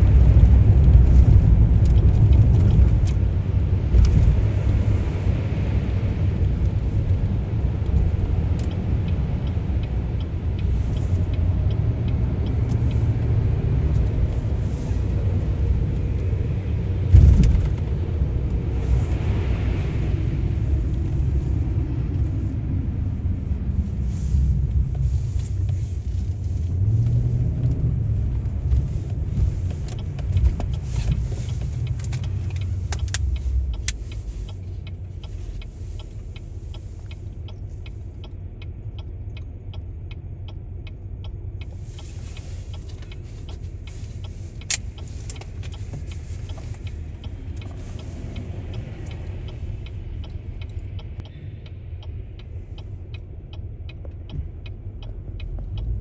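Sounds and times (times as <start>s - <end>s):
car engine and tyre rumble: 0.0s - 56.0s
light regular ticking: 0.0s - 56.0s.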